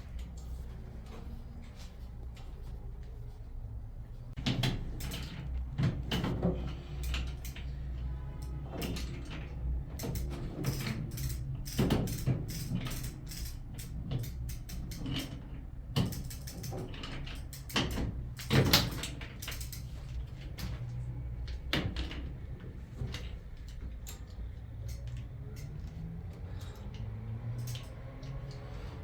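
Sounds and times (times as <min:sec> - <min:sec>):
knocks and clatter of handling: 0:04.4 - 0:07.9, 0:08.5 - 0:29.0.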